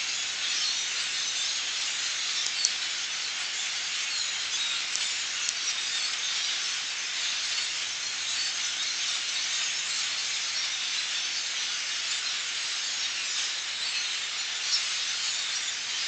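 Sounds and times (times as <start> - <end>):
flock of birds calling: 0.0 - 16.0.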